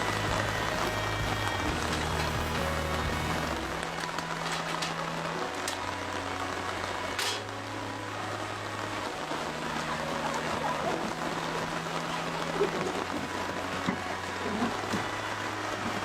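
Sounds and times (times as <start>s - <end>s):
faint low sustained notes: 0.0s - 16.0s
heavy rain: 0.0s - 16.0s.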